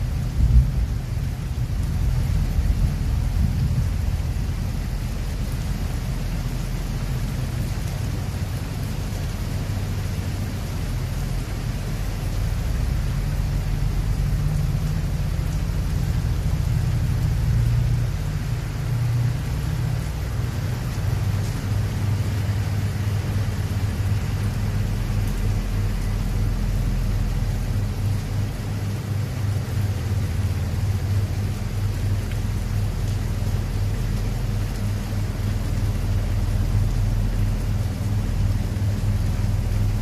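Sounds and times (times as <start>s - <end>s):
heavy rain hissing: 0.0s - 40.0s
wind rumble: 0.0s - 40.0s.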